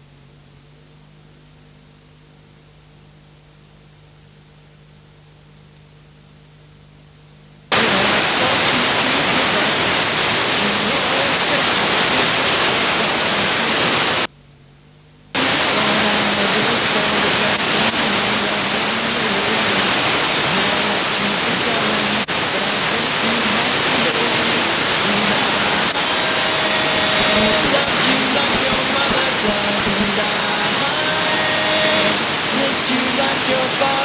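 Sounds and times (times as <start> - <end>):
faint steady hum: 0.0 - 34.0
loud broadcast noise hiss: 0.0 - 34.0.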